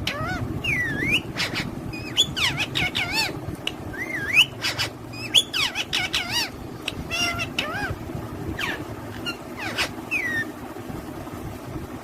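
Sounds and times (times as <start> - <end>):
parrots chirping and squawking: 0.0 - 10.5.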